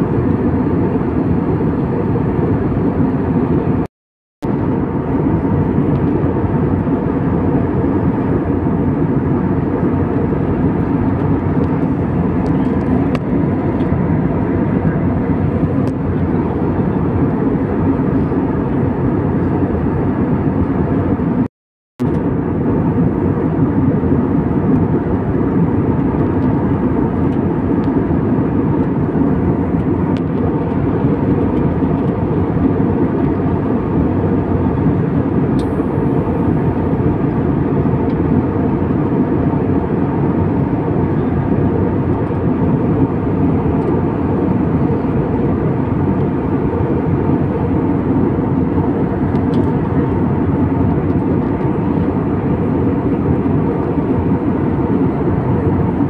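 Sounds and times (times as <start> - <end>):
jet cabin engine and airflow rush: 0.0 - 56.0.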